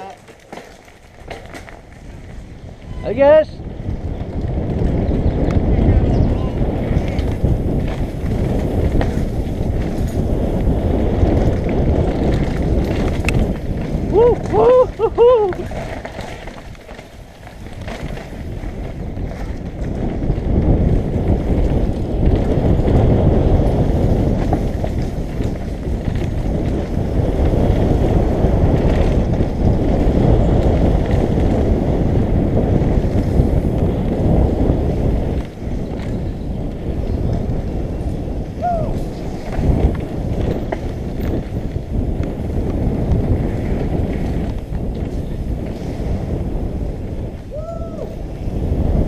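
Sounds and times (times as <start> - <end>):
bike rattling over dirt trail: 0.0 - 49.0
wind buffeting microphone: 0.0 - 49.0.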